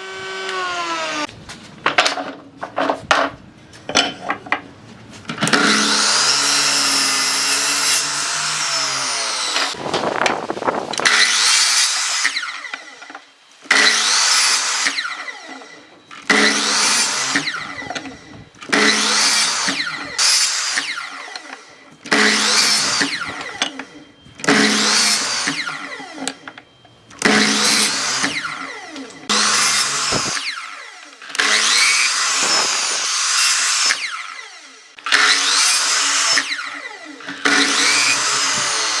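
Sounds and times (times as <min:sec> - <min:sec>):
electric power tool cutting wood: 0:00.0 - 0:01.3, 0:05.4 - 0:39.0.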